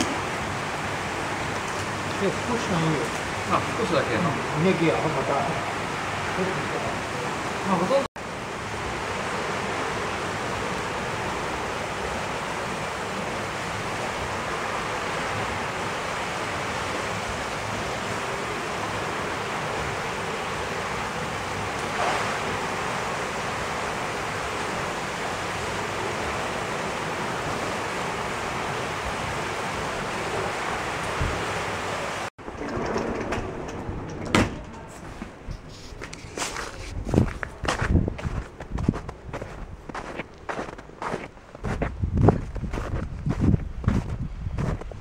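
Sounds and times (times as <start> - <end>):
water rushing and splashing: 0.0 - 41.8.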